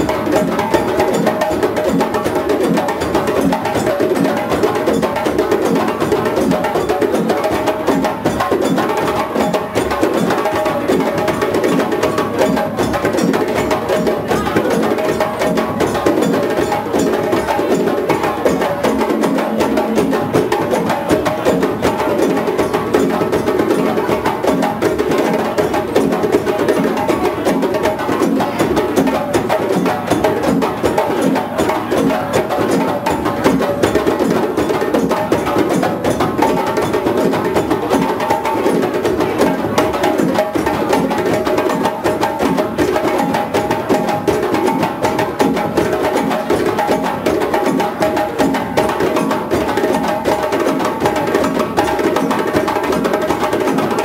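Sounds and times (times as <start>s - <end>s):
djembe drums playing: 0.0s - 54.0s.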